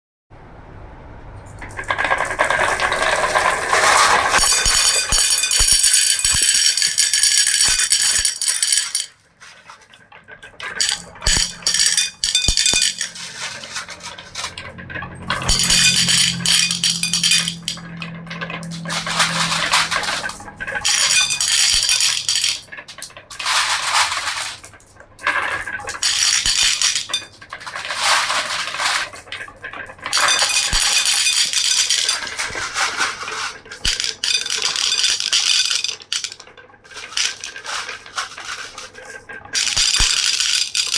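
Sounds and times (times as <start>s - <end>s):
marbles rolling and clattering: 1.4s - 40.9s.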